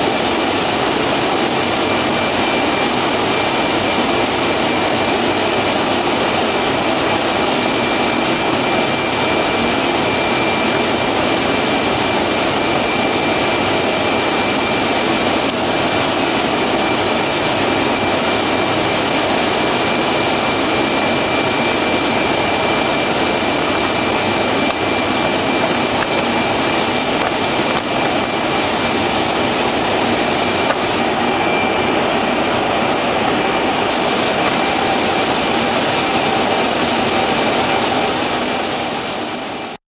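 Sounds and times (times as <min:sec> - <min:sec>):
bag making machine running: 0:00.0 - 0:39.8
thin high whine: 0:00.0 - 0:39.8.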